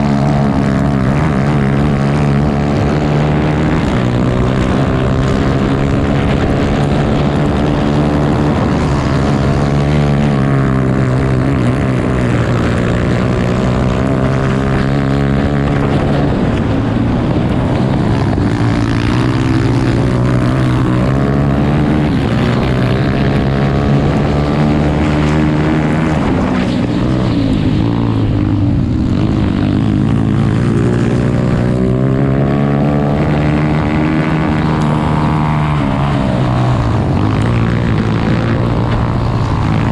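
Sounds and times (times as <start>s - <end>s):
kart engine rising and falling: 0.0s - 39.9s.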